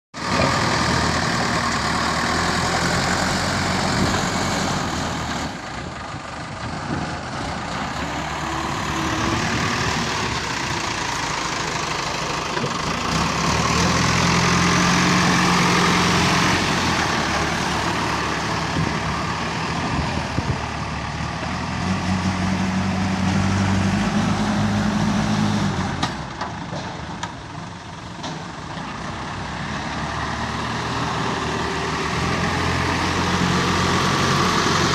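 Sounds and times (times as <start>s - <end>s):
digger diesel engine running: 0.2s - 34.9s.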